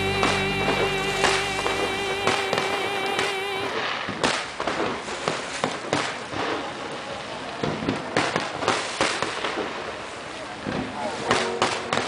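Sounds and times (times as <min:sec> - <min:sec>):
fireworks bangs and pops: 0:02.3 - 0:12.0.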